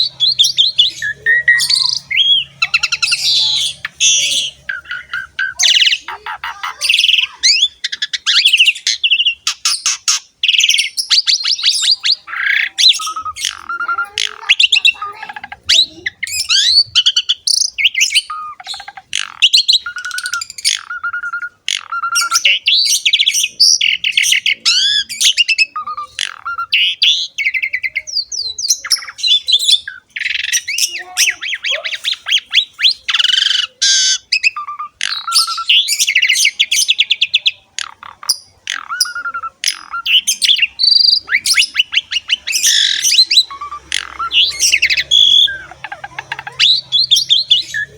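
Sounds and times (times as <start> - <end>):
bird singing whistles and trills: 0.0 - 47.9.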